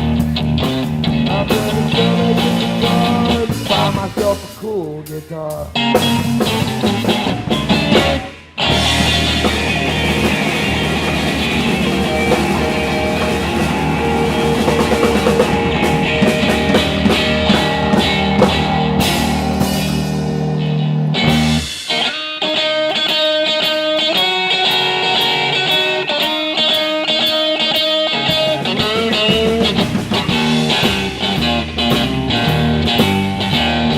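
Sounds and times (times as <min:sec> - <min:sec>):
blues-rock band playing: 0:00.0 - 0:33.9
electric guitar notes: 0:00.0 - 0:33.9.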